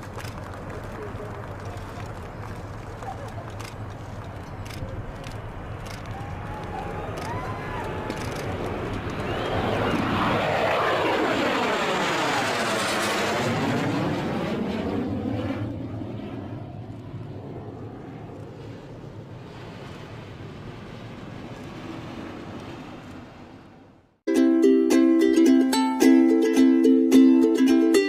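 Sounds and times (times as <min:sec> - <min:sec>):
jet plane taking off: 0:00.0 - 0:24.2.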